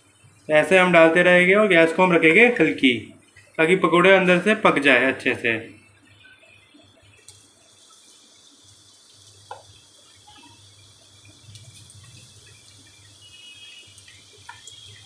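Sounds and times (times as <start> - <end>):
frying sizzle with crackles: 0.0 - 15.0.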